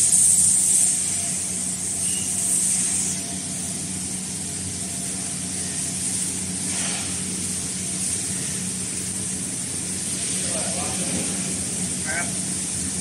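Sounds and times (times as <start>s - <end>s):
high hiss: 0.0s - 13.0s
machinery electric hum: 0.0s - 13.0s.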